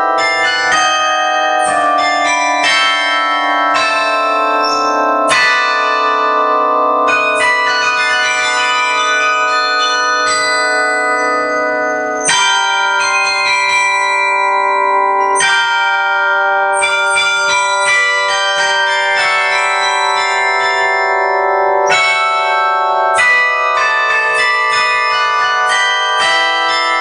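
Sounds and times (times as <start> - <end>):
carillon bells playing melody: 0.0 - 27.0.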